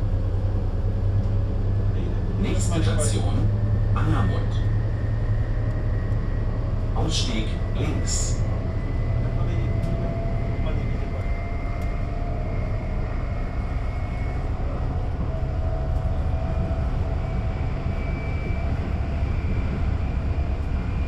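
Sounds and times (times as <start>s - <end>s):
electric traction whine: 0.0s - 21.0s
train running gear rumble: 0.0s - 21.0s.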